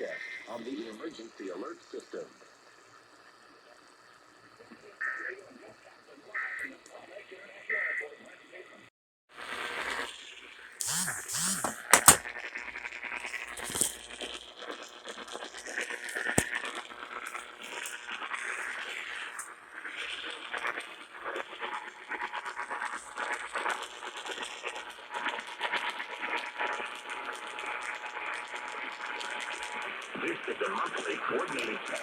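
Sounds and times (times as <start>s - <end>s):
radio static crackling hiss: 0.0s - 8.8s, 9.4s - 32.0s.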